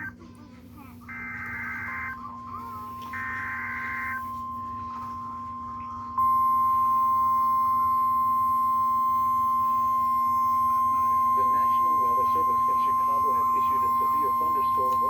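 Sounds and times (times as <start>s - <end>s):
buzzy two-tone data warble: 1.0s - 15.0s
steady alert tone: 1.1s - 15.0s.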